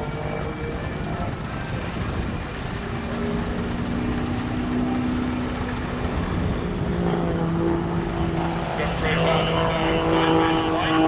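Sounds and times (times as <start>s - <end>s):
biplane engine and propeller drone: 0.0s - 11.0s.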